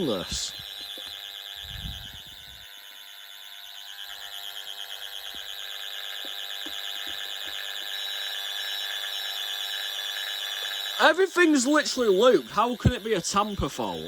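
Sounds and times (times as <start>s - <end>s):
alarm sounder high-pitched warble: 0.0s - 14.0s.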